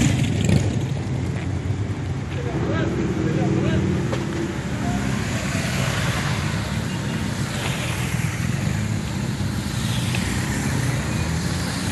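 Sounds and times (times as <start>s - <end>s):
motorcycles riding past: 0.0s - 11.9s.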